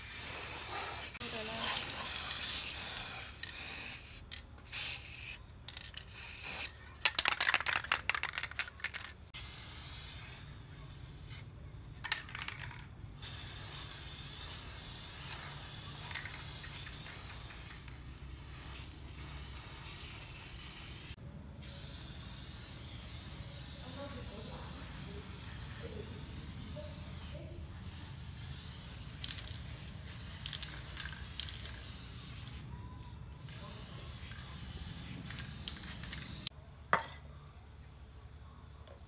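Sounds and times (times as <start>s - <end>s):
aerosol spray can hissing: 0.0s - 32.7s, 33.4s - 36.5s.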